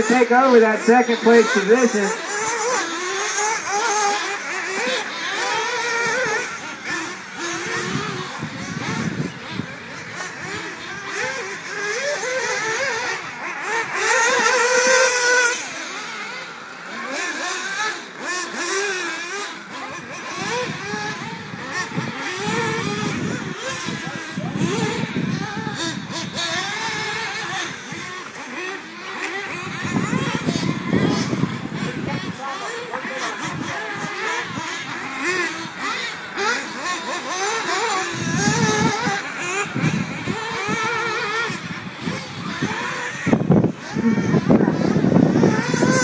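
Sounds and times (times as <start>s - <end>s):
rc car engines whining: 0.0s - 46.0s.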